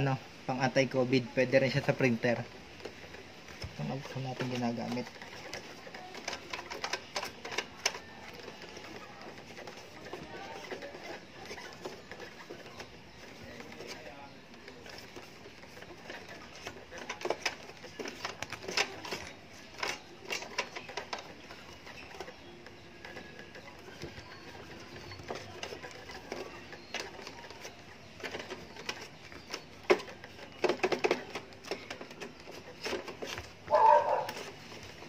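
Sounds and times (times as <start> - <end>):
cloth rubbing on plastic printer: 0.9 - 35.0.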